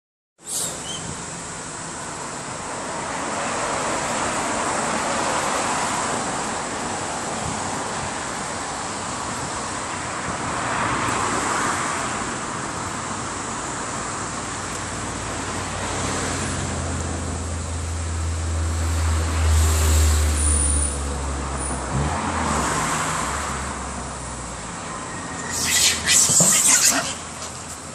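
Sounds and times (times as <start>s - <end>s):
road traffic noise: 0.4s - 27.9s.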